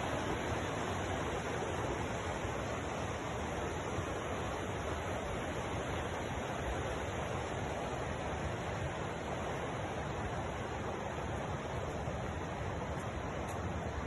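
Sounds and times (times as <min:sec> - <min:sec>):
river rushing over rocks: 0:00.0 - 0:14.0.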